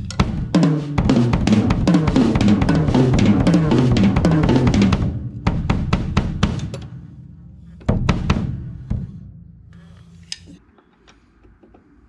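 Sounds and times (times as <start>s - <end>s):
bass drum roll: 0.0s - 9.7s
drum kit: 0.0s - 9.9s.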